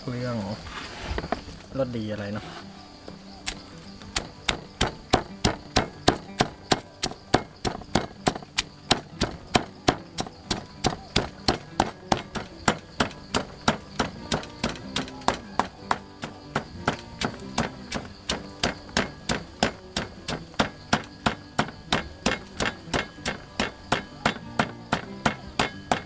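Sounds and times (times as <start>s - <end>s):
pestle pounding in a mortar: 4.2s - 26.0s.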